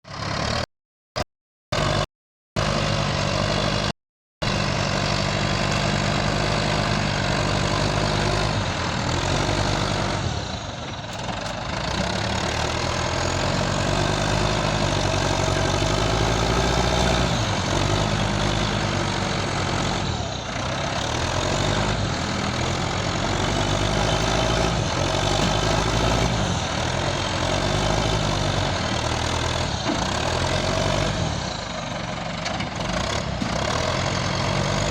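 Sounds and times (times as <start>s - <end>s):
diesel engine revving: 0.1s - 0.7s, 1.7s - 34.9s.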